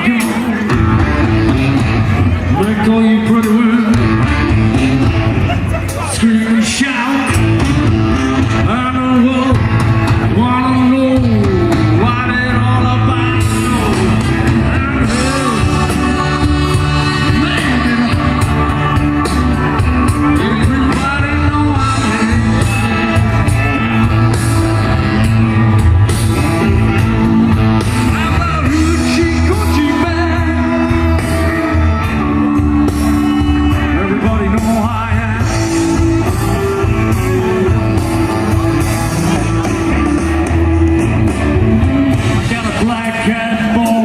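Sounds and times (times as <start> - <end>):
person singing: 0.0 - 5.1, 5.7 - 44.0
blues band playing: 0.0 - 44.0.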